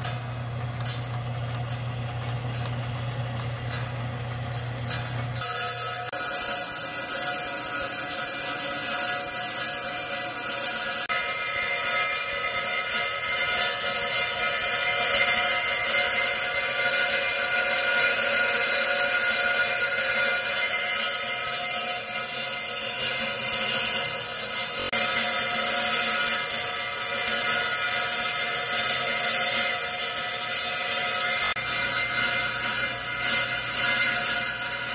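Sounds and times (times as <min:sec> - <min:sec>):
saw blade grinding whine: 0:00.0 - 0:34.9.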